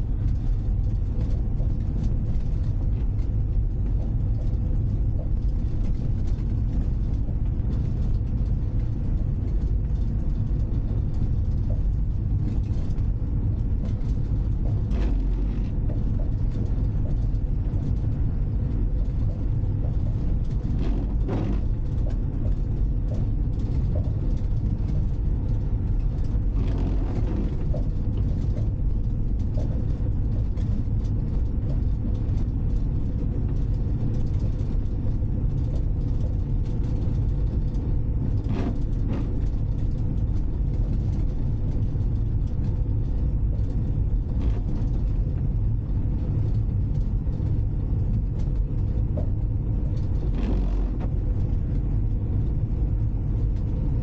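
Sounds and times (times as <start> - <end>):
van engine and road noise: 0.0 - 54.0.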